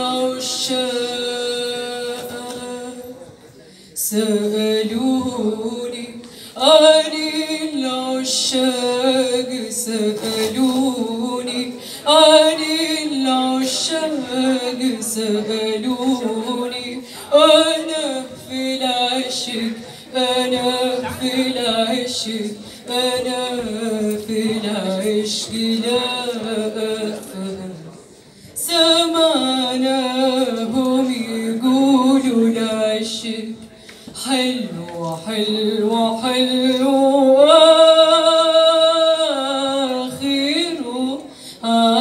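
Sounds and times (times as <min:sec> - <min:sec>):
woman singing unaccompanied: 0:00.0 - 0:03.2, 0:04.0 - 0:27.9, 0:28.6 - 0:33.6, 0:34.2 - 0:42.0.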